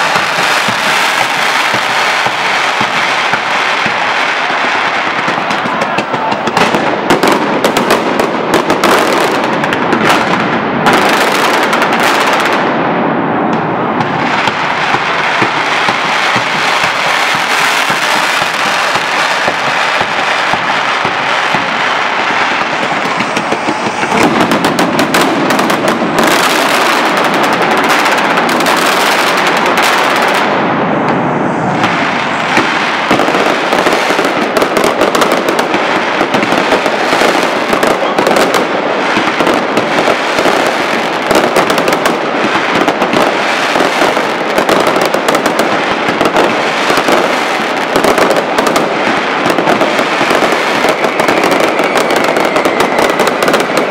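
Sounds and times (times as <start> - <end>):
rapid firecracker barrage: 0.0 - 53.9.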